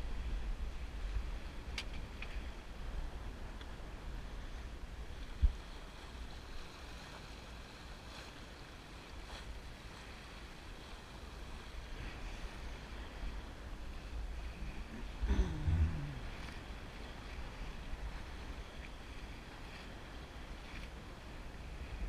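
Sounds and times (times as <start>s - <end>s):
water rushing along boat hull: 0.0s - 22.0s.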